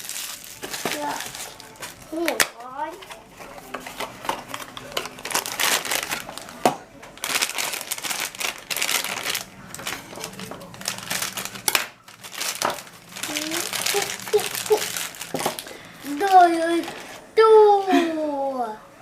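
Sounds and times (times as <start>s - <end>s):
packaging crinkling and tearing: 0.0s - 17.2s.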